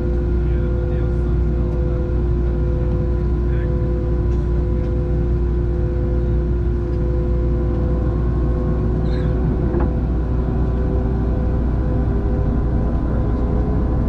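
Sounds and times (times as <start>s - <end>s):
jet engine cabin rumble: 0.0s - 14.0s
jet engine whine: 0.0s - 14.0s.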